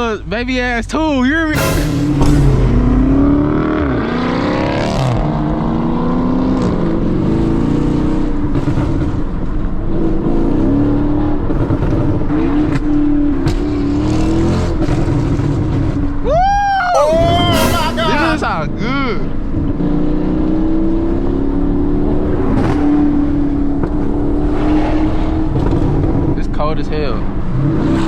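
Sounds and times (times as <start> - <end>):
car engine accelerating: 0.0 - 16.2, 17.2 - 28.0.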